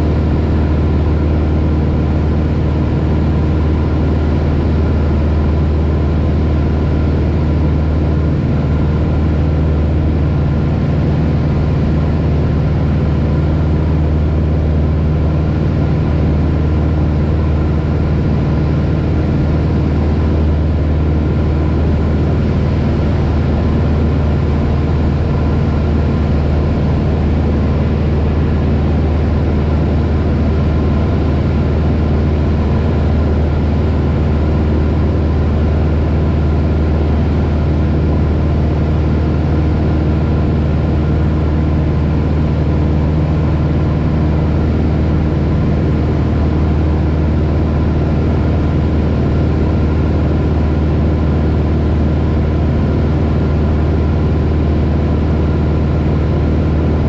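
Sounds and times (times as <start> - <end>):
light plane engine droning: 0.0 - 57.0.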